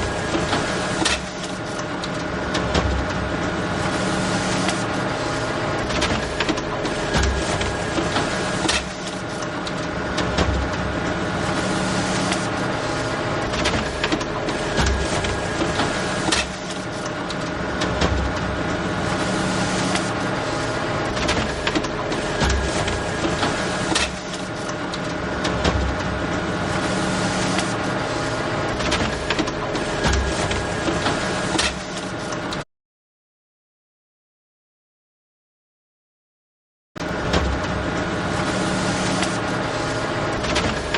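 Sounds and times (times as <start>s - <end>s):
photocopier whirring and clicking: 0.0s - 32.7s, 37.0s - 40.9s.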